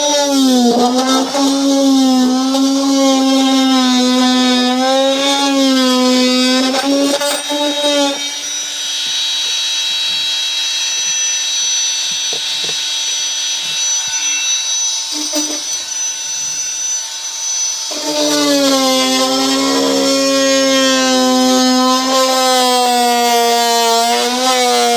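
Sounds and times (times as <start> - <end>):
power tool cutting plastic: 0.0 - 24.9.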